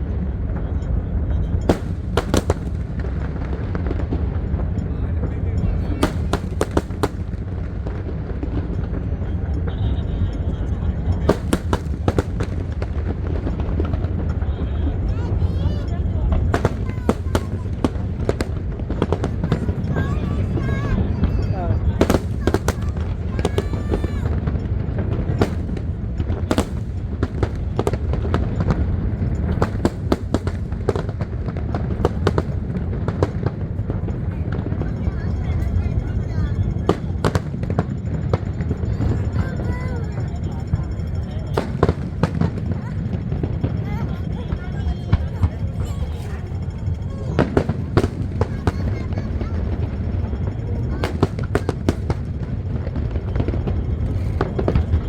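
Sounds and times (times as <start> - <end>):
continuous low rumble: 0.0 - 55.0
fireworks cracking: 0.0 - 55.0.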